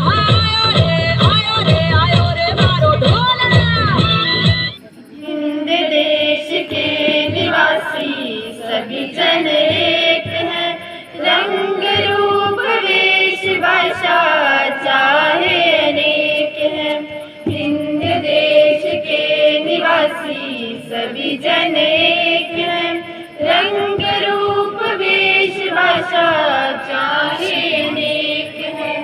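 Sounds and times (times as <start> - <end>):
low thuds keeping a beat: 0.0 - 29.0
children singing in chorus: 5.1 - 29.0.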